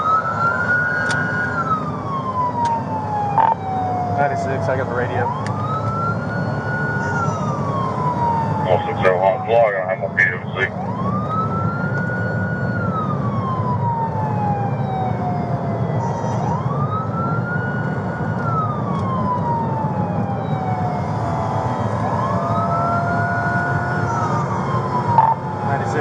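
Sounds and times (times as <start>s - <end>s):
engine and road noise: 0.0s - 26.0s
police siren wailing: 0.0s - 26.0s.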